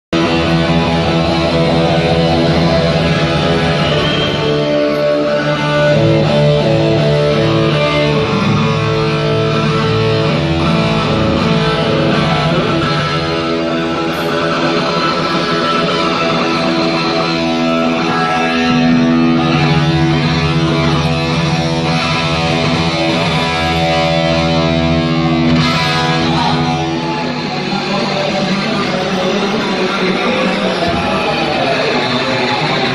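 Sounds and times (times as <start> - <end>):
bass guitar: 0.1 - 32.9
distorted electric guitar: 0.1 - 32.9
drums: 0.1 - 32.9.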